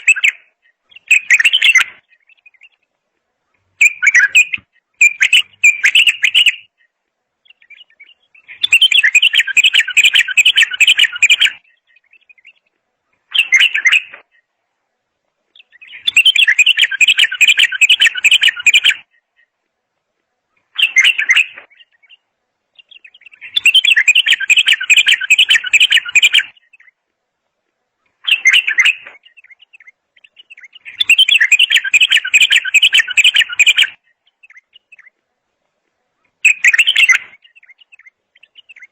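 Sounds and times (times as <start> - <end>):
bird singing: 0.0 - 14.6, 15.4 - 19.6, 20.3 - 27.0, 28.0 - 35.2, 36.1 - 38.9.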